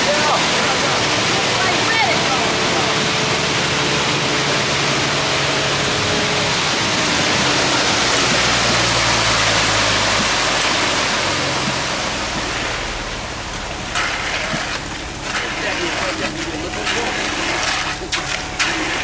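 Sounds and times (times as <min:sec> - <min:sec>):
concrete pouring down chute: 0:00.0 - 0:19.0
low engine hum: 0:00.0 - 0:19.0.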